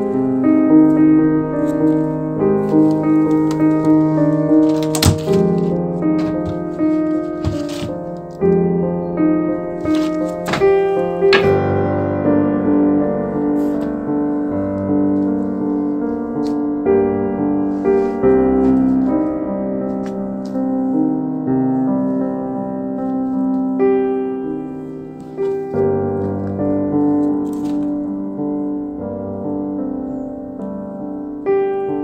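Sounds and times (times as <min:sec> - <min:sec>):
slow piano piece: 0:00.0 - 0:32.0.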